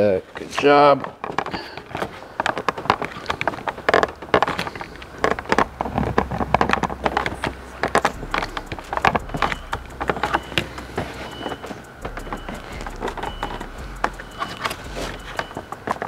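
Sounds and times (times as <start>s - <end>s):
fingers pressing plastic parts: 1.0s - 16.0s
low steady hum: 1.6s - 16.0s.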